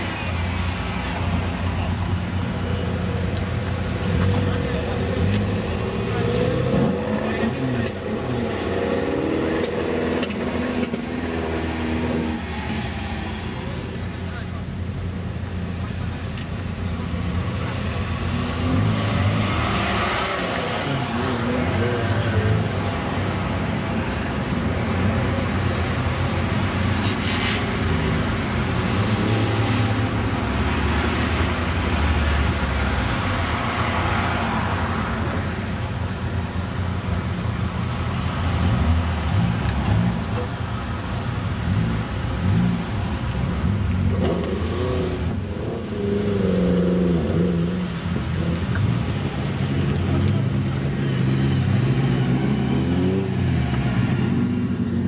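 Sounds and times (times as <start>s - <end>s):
car engines rumbling: 0.0s - 55.0s.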